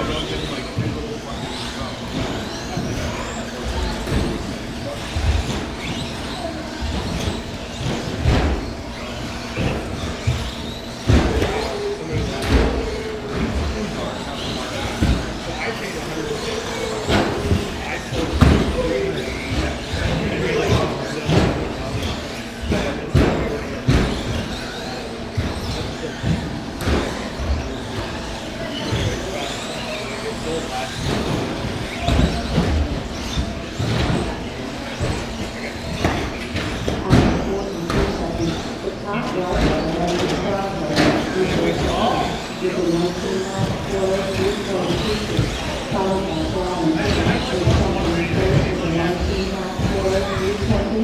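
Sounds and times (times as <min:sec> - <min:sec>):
rc truck motors whining: 0:00.0 - 0:51.0
steady background noise: 0:00.0 - 0:51.0.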